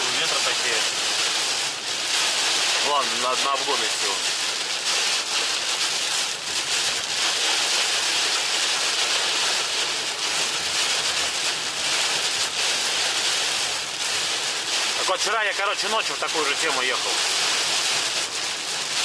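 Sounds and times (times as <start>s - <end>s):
rain drumming on vehicle: 0.0s - 19.0s
tyres hissing through water: 0.0s - 19.0s.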